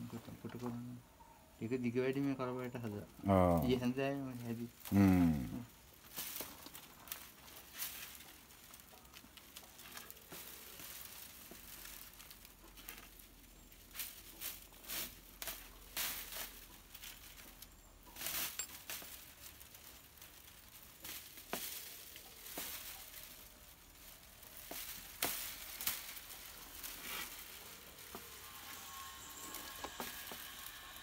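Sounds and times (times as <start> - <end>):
dry leaf midribs rustling and clicking: 2.1 - 31.0.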